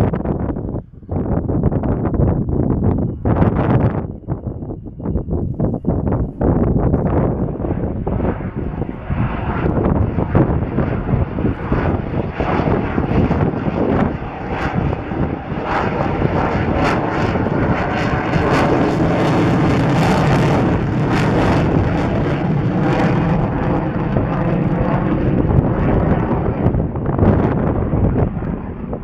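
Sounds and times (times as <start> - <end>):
jet engines rushing roar: 0.0 - 29.0.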